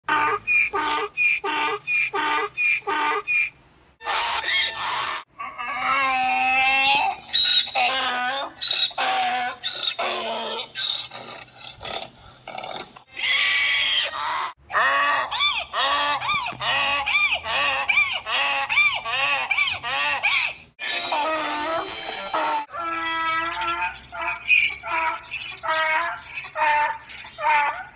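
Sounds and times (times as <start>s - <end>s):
donkey braying: 0.1s - 27.9s.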